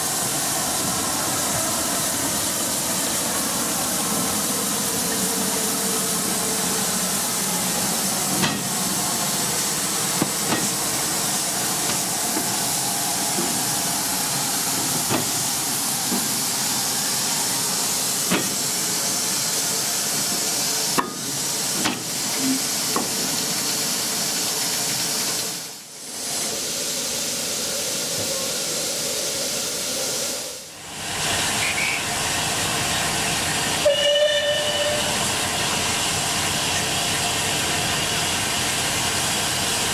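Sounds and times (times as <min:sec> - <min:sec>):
steam hissing: 0:00.0 - 0:39.9.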